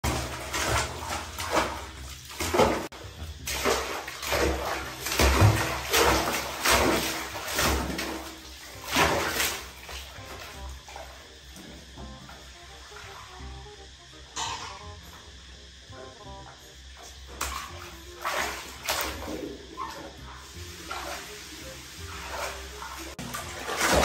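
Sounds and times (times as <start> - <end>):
water splashing in plastic tub: 0.0 - 13.4, 17.1 - 24.0.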